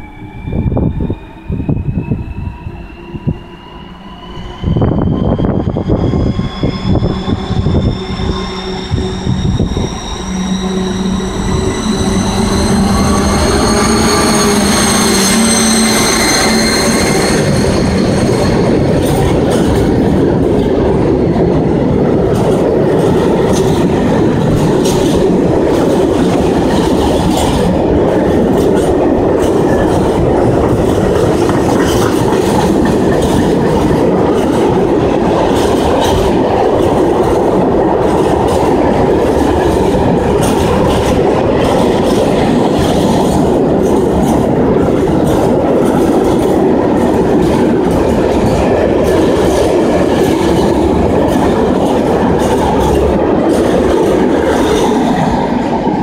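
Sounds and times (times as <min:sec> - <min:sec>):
diesel locomotive engine whine: 0:00.0 - 0:56.0.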